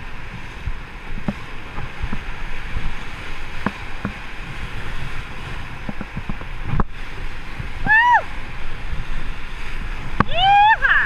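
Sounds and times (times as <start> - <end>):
waves slapping boat hull: 0.0 - 11.0
whitewater rushing: 0.0 - 11.0.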